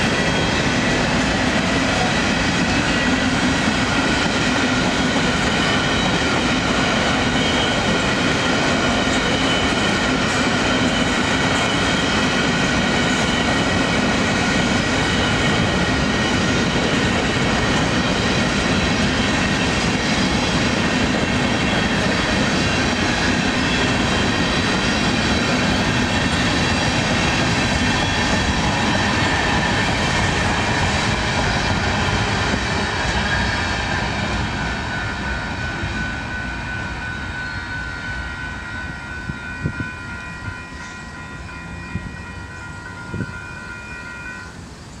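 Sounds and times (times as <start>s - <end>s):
train wheels rumbling on rails: 0.0s - 43.6s.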